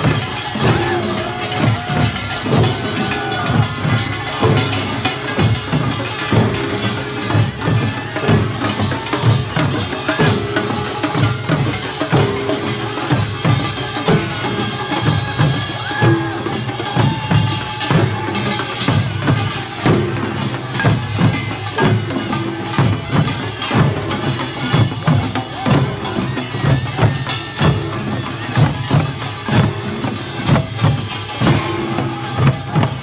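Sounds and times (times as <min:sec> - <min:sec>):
barrel drums beating: 0:00.0 - 0:33.0.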